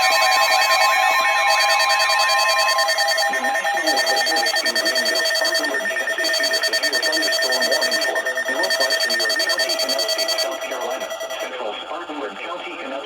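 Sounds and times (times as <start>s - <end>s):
pulsing electronic alert buzz: 0.0s - 11.5s.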